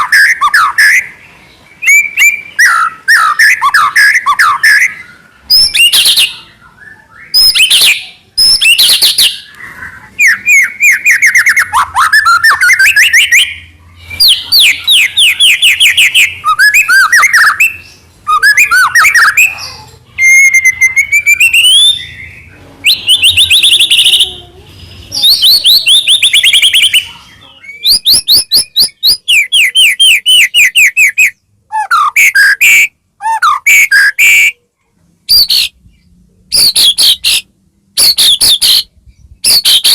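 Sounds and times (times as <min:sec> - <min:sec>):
songbird whistling song: 0:00.0 - 0:34.6, 0:35.3 - 0:39.9.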